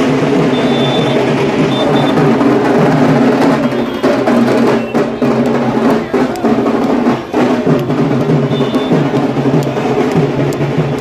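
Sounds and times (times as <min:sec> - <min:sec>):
rapid drum beats: 0:00.0 - 0:11.0.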